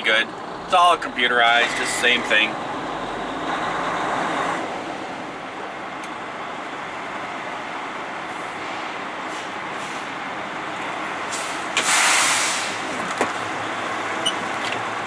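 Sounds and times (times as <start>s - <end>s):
semi truck engine running: 0.0s - 15.0s.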